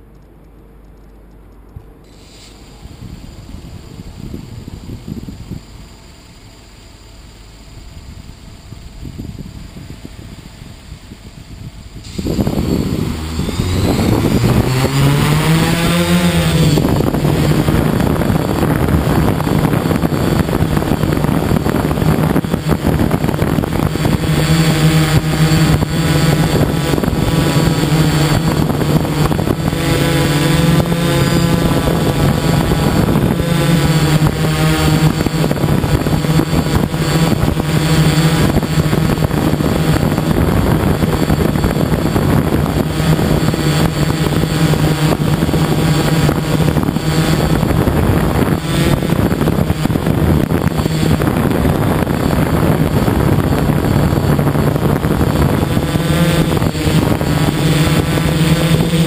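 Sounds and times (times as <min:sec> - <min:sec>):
drone motors buzzing: 0:00.8 - 0:59.0.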